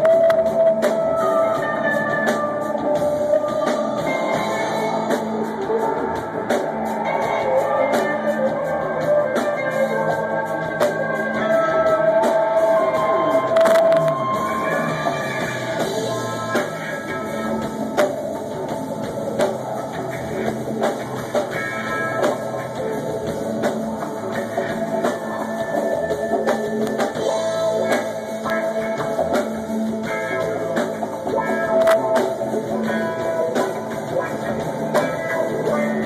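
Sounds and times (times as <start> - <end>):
drum kit beat: 0.0 - 36.0
rock band playing instrumental: 0.0 - 36.0.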